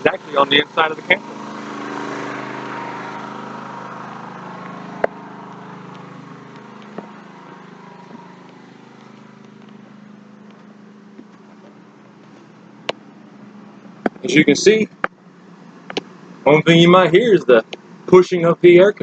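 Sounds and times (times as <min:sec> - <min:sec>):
generator humming: 0:00.0 - 0:19.0.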